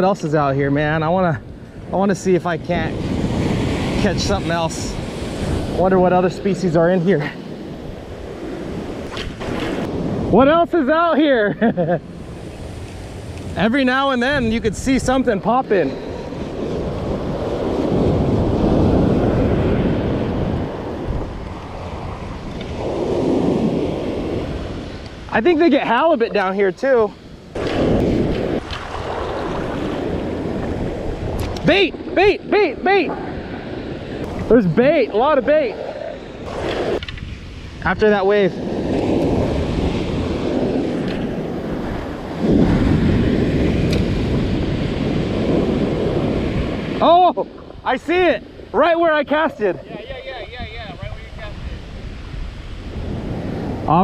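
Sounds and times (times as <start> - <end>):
surf breaking on a beach: 0.0 - 54.0
wind buffeting microphone: 0.0 - 54.0.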